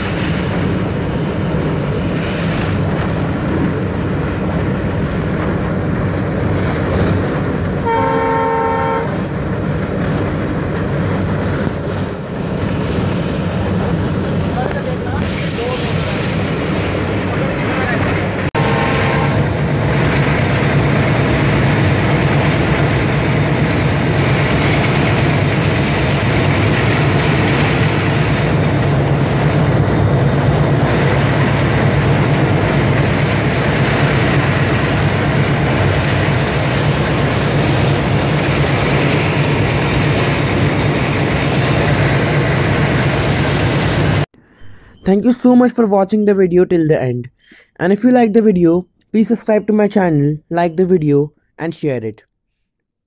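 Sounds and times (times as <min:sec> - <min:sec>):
wheels on rails: 0:00.0 - 0:45.0
locomotive engine drone: 0:00.0 - 0:45.1.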